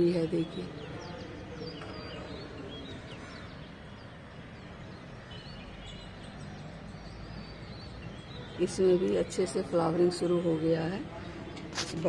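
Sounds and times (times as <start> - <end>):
low hum of city noise: 0.0 - 12.0.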